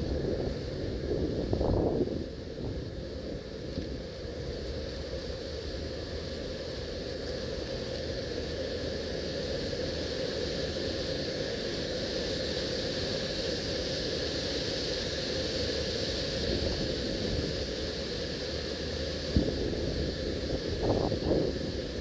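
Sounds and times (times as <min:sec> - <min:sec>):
machinery humming and hissing: 0:00.0 - 0:22.0.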